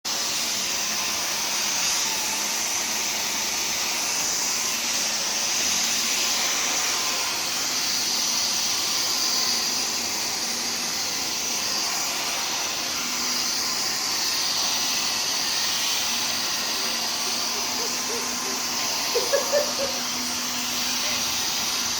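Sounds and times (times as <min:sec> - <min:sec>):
vacuum cleaner running: 0:00.0 - 0:21.9.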